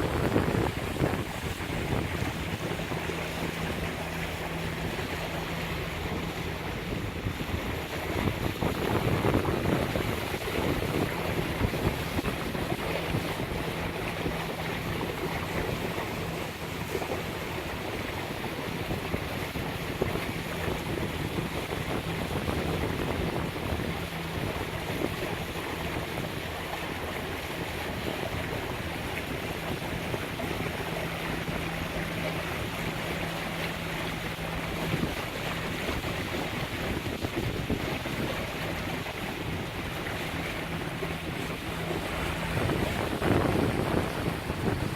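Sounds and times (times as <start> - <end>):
boat engine humming: 0.0 - 44.9
water rushing: 0.0 - 44.9
wind buffeting microphone: 0.0 - 44.9.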